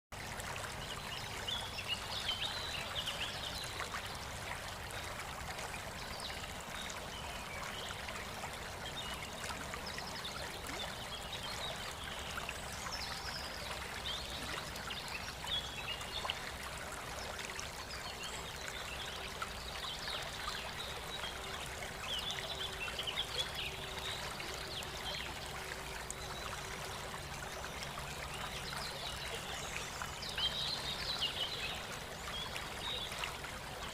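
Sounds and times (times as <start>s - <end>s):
running water: 0.1s - 33.9s.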